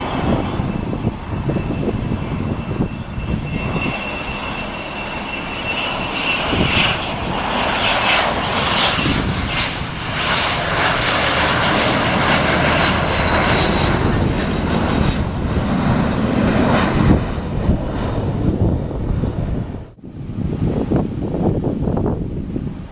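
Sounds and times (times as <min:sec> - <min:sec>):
high jet whine: 0:00.0 - 0:22.9
jet engines passing: 0:00.0 - 0:22.9.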